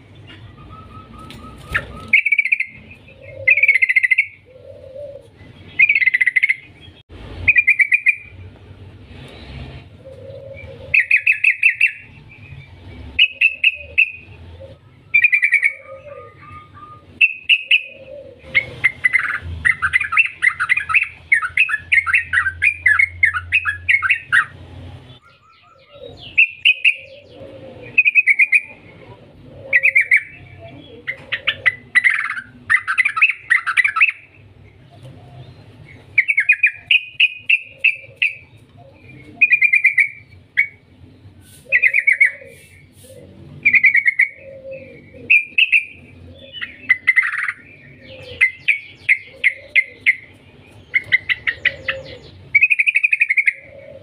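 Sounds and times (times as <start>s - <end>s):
bulbul singing: 0.0s - 8.6s, 10.0s - 54.0s.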